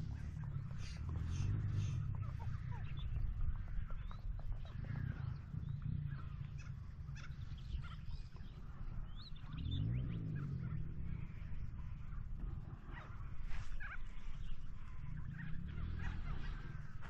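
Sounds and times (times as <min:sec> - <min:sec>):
birds chirping: 0:00.0 - 0:17.0
low rumble: 0:00.0 - 0:17.0.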